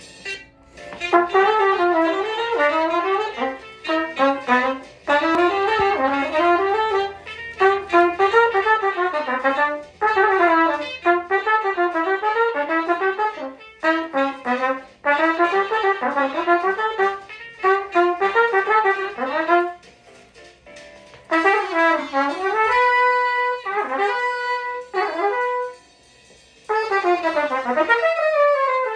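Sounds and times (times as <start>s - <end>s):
wind instrument playing jazz runs: 0.0s - 25.9s, 26.7s - 28.9s.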